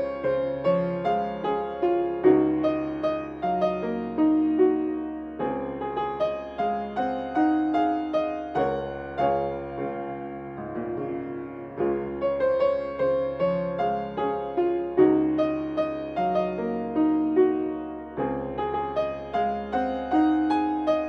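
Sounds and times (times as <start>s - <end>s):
solo piano melody: 0.0s - 21.0s.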